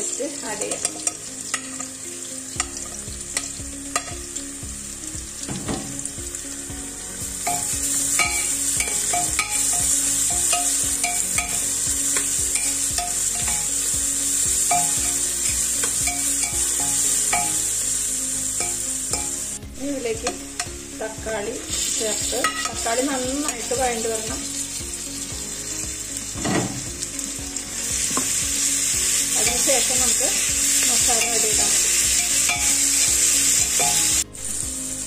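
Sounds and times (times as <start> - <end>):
onions frying in oil: 0.0 - 35.0.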